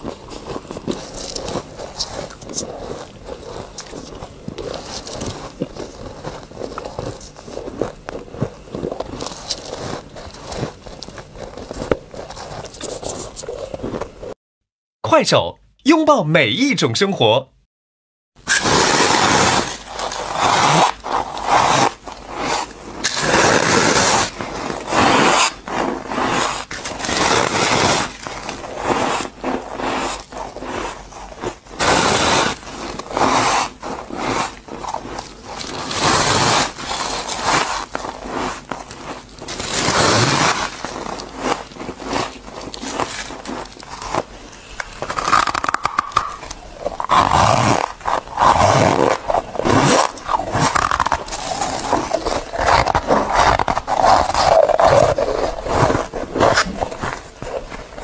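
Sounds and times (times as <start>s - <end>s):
person chewing crunchy frost: 0.0s - 14.4s, 18.4s - 58.0s.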